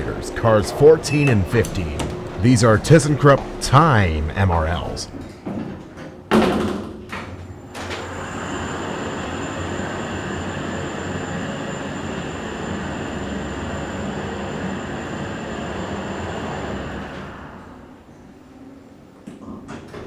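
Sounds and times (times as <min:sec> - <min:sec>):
elevator rushing hum: 0:00.0 - 0:06.3, 0:07.1 - 0:19.2.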